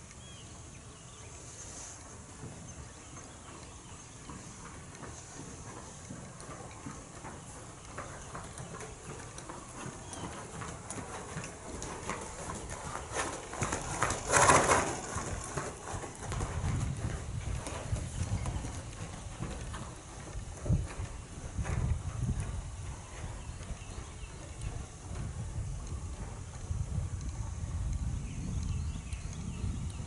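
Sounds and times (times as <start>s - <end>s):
hoofbeats on sand: 1.0s - 30.0s.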